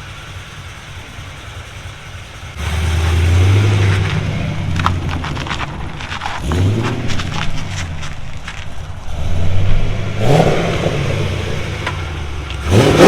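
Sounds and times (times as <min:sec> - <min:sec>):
exhaust crackles and pops: 0:00.0 - 0:13.0
engine revving through exhaust: 0:02.4 - 0:13.0.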